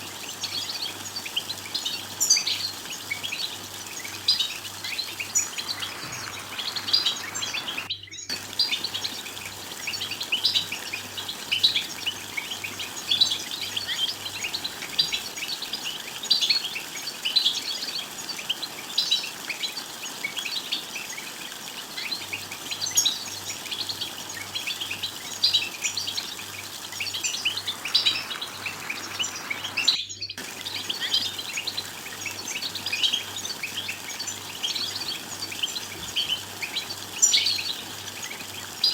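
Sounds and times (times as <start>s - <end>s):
finches twittering: 0.2s - 38.9s.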